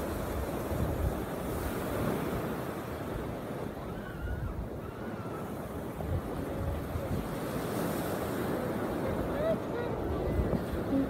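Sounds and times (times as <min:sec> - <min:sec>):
small waves breaking on sand: 0:00.0 - 0:11.0
wind gusting on microphone: 0:00.0 - 0:11.0.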